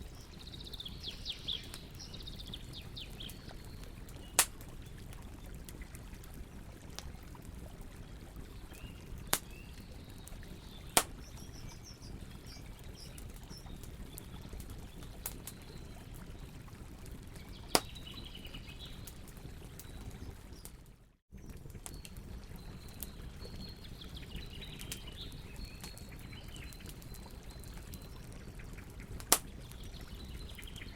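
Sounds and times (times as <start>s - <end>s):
small birds chirping: 0.0s - 6.7s, 8.0s - 20.8s, 21.4s - 30.9s
campfire crackling and popping: 0.0s - 30.9s.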